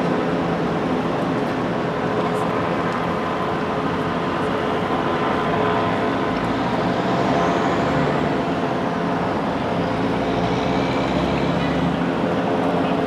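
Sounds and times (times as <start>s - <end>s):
road noise: 0.0s - 13.0s
vehicle engines idling: 0.0s - 13.0s.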